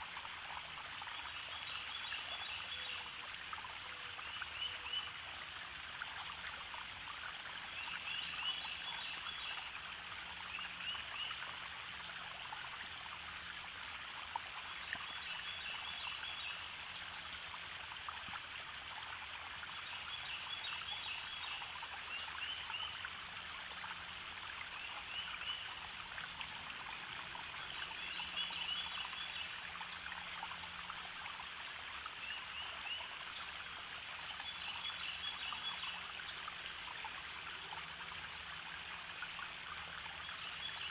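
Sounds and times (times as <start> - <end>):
running water stream: 0.0 - 40.9.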